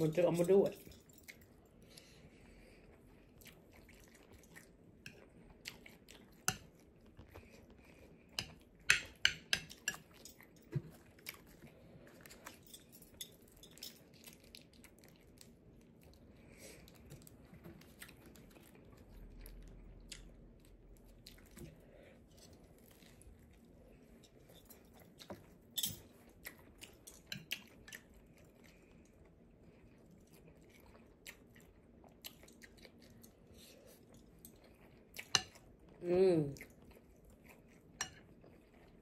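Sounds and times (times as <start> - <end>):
chewing and wet mouth sounds: 0.0 - 39.0.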